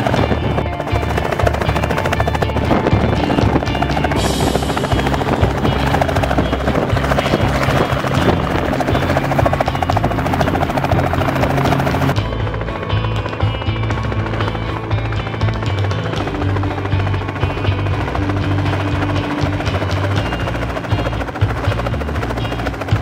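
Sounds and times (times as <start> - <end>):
background music: 0.0 - 23.0
helicopter rotor and engine: 0.0 - 23.0.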